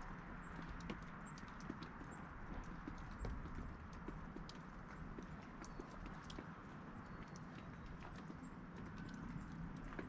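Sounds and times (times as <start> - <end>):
meltwater dripping: 0.0 - 10.0.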